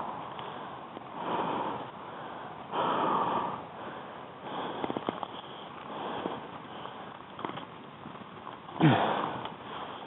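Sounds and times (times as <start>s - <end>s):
person breathing heavily: 0.0s - 7.2s, 8.8s - 10.0s.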